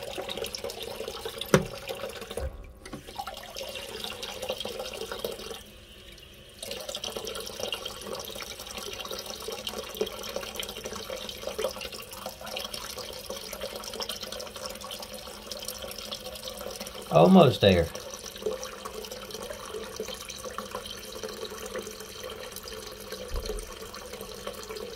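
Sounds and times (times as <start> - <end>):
water rushing into toilet tank: 0.0 - 24.9.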